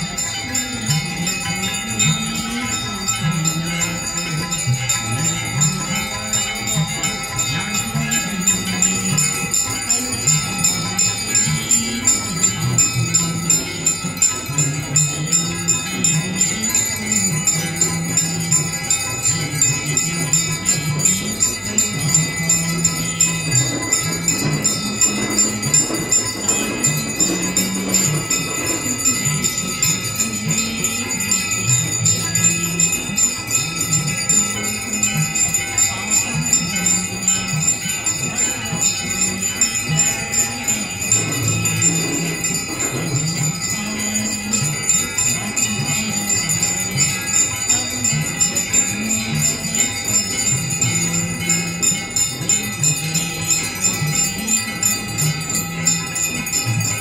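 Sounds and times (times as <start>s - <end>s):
bells ringing: 0.0s - 57.0s.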